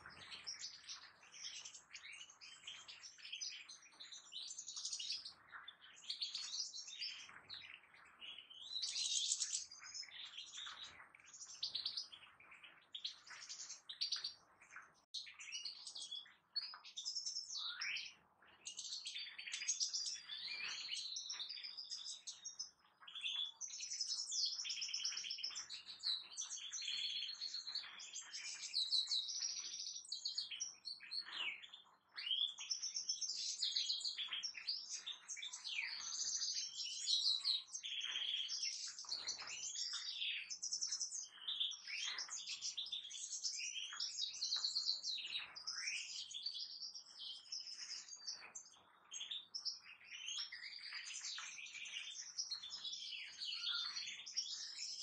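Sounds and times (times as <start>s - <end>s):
finches twittering song: 0.0s - 55.0s.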